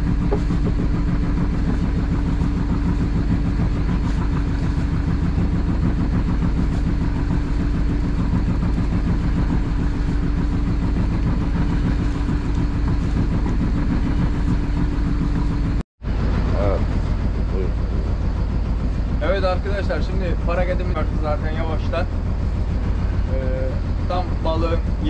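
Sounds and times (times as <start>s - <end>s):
boat engine throbbing: 0.0s - 25.0s.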